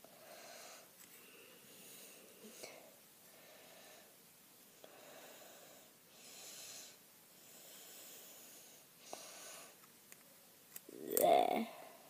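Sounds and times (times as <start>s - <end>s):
slow breathing: 0.0s - 9.8s.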